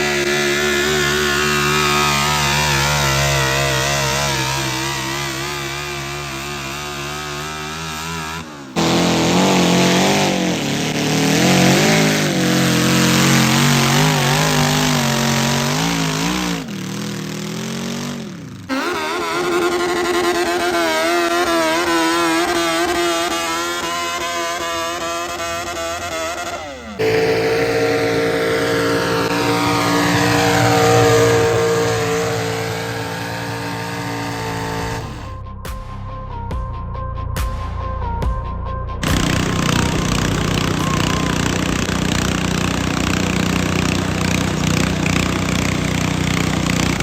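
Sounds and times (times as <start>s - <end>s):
tractor engines revving hard: 0.0s - 35.4s, 39.0s - 47.0s.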